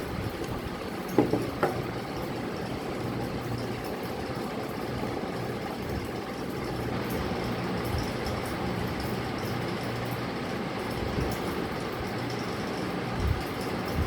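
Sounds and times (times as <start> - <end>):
low motor hum with hiss: 0.0 - 14.0.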